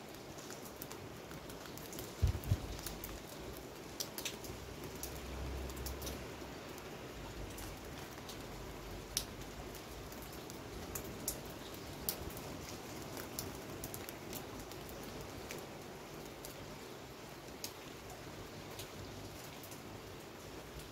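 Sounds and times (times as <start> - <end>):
raindrops tapping: 0.0 - 19.8
rain hissing: 0.0 - 20.9.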